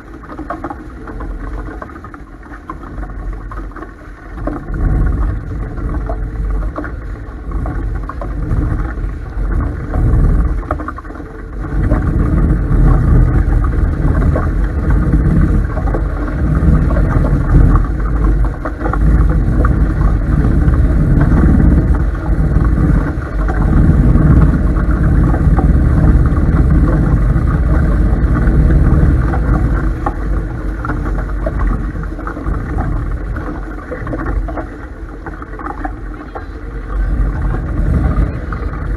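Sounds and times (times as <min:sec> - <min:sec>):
rush of wind and water: 0:00.0 - 0:38.9.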